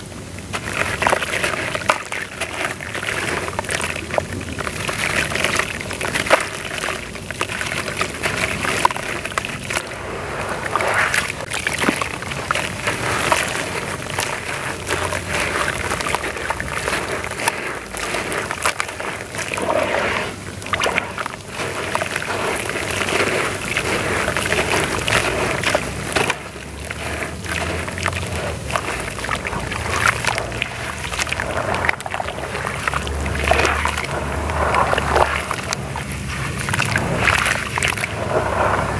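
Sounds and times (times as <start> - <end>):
water sloshing and splashing: 0.0 - 38.9
wet cement paste crumbling: 0.0 - 38.9.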